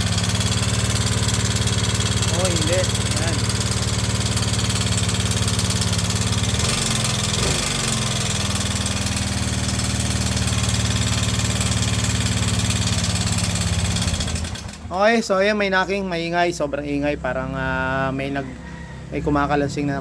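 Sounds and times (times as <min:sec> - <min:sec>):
scooter engine idling with rattle: 0:00.0 - 0:20.0.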